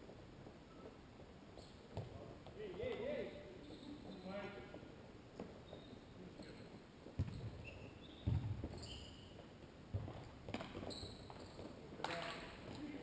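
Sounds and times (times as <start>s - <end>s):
shoes squeaking on floor: 0.5s - 13.0s.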